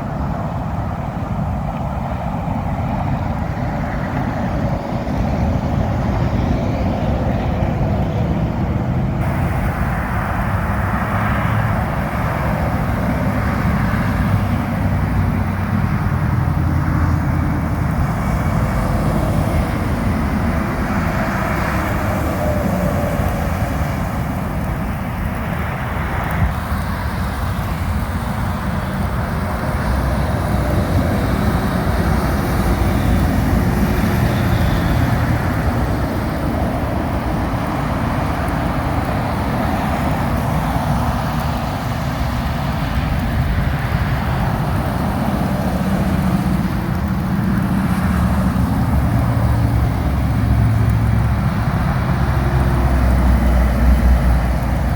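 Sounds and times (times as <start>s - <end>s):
low rumble of diesel engines: 0.0s - 54.9s
tyres hissing on wet road: 0.0s - 54.9s.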